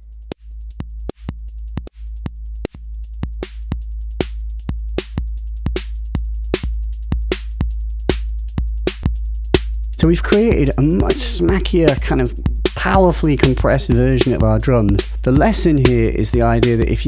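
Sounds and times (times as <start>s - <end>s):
electronic drum loop: 0.0s - 17.0s
steady deep bass: 0.0s - 17.0s.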